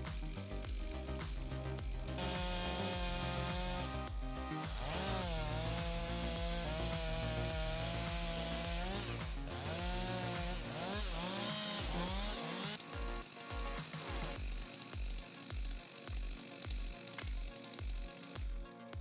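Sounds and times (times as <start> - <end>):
chainsaw cutting wood: 2.1 - 18.4.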